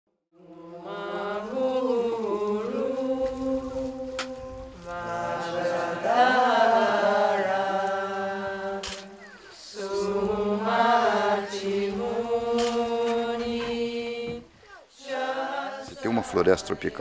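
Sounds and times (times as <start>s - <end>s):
chanted vocal music: 0.3s - 17.0s.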